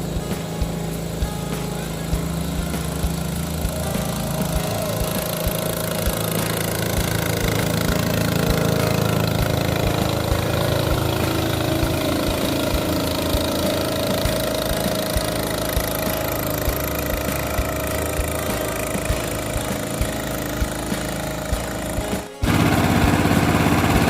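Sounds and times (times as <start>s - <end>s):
boat motor drone: 0.0s - 24.0s.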